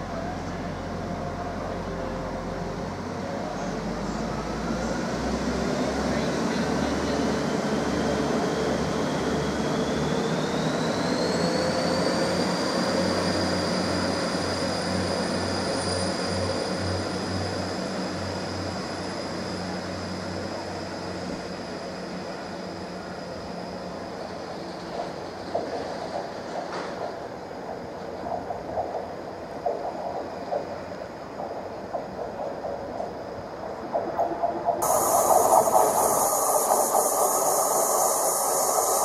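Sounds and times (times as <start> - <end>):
diesel train pulling away: 0.0 - 39.0
high train whine: 0.0 - 39.0.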